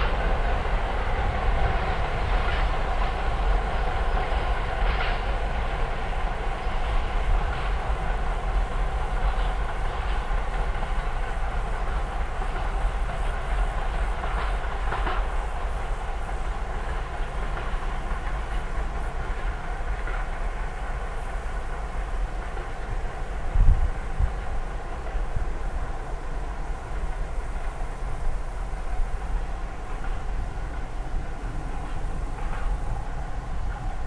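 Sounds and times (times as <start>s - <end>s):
diesel locomotive rumble: 0.0s - 34.0s
train wheels on rails: 0.0s - 34.0s.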